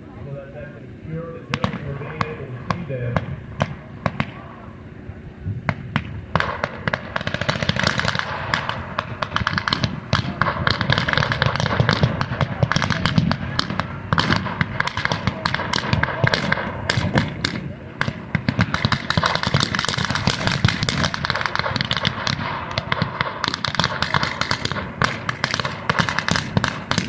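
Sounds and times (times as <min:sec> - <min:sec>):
gunfire firing blanks: 0:01.4 - 0:04.6, 0:05.6 - 0:27.0.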